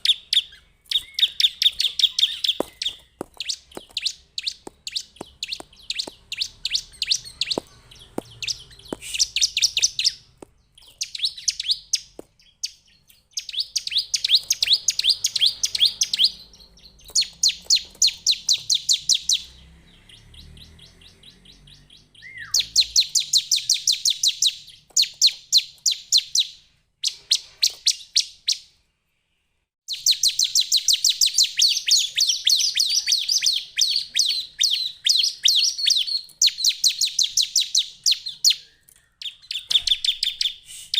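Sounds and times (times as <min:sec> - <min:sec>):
bird singing high sharp notes: 0:00.0 - 0:28.8, 0:29.9 - 0:40.9.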